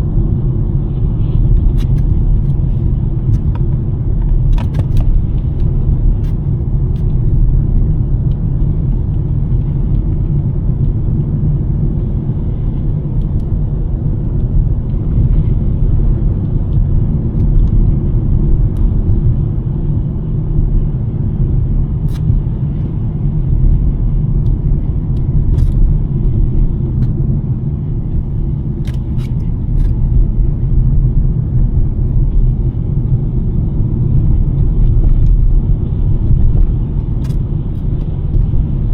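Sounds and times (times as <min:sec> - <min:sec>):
car driving on snowy road: 0:00.0 - 0:38.9.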